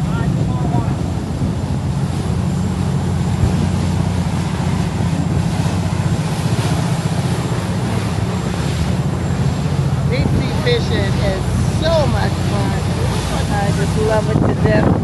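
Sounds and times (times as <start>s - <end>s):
boat engine droning: 0.0s - 15.0s
rushing water: 0.0s - 15.0s.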